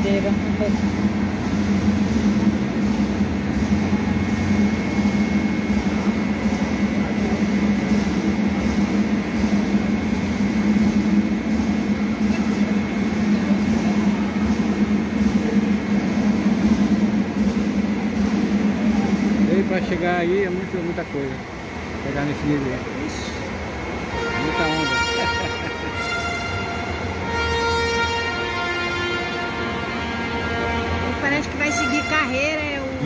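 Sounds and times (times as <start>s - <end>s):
industrial fan droning: 0.0s - 33.0s.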